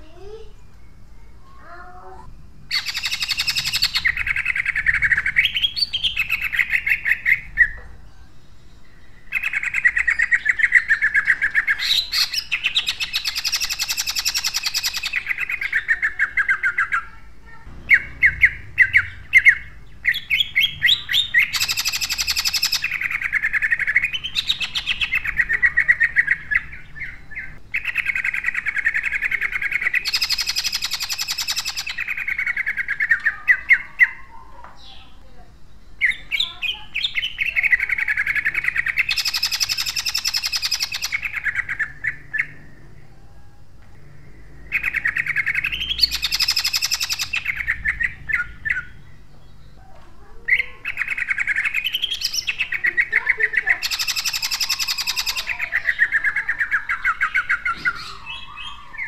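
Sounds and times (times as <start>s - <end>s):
bird singing rapid repeated notes: 0.0s - 43.4s, 44.0s - 59.0s
sharp bird chirps: 0.0s - 59.0s.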